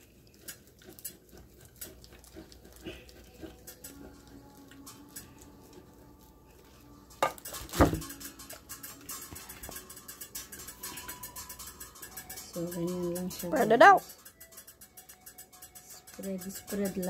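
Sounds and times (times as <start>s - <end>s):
utensils and dishes clinking: 0.0s - 17.0s.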